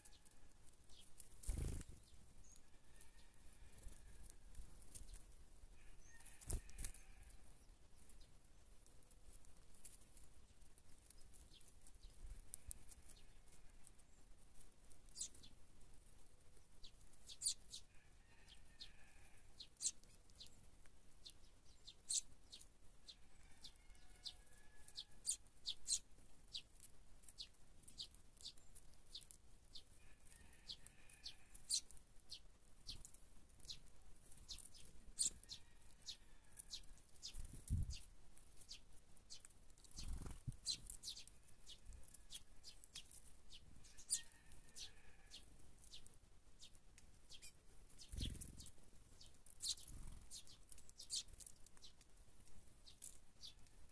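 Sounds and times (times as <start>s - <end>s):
sparrows chirping: 0.0s - 52.1s, 52.7s - 53.9s.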